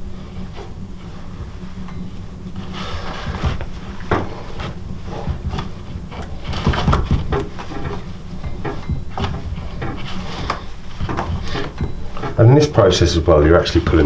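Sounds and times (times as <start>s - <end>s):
rawhide lacing scraping drum: 0.0s - 14.0s
steady low hum: 0.0s - 14.0s.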